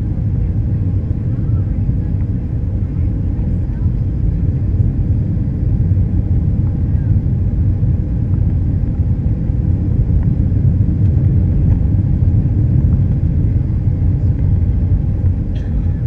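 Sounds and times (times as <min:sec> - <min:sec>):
airplane cabin engine rumble: 0:00.0 - 0:16.0
faint steady hum: 0:00.0 - 0:16.0.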